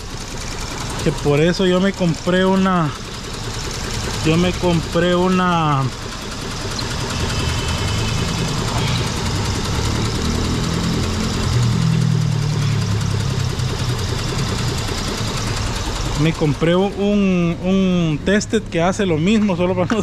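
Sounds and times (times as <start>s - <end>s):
car engine idling roughly misfiring: 0.0s - 20.0s.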